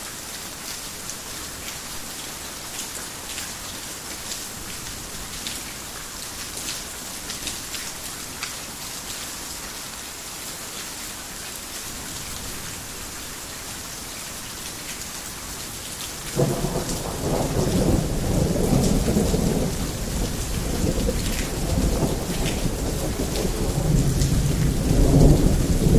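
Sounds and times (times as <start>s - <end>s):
heavy rain on a roof: 0.0s - 25.9s.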